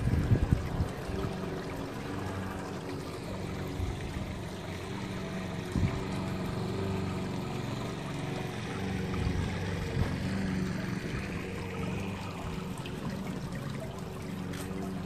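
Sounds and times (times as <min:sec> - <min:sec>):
low even hum: 0:00.0 - 0:15.0
running water: 0:00.0 - 0:15.0.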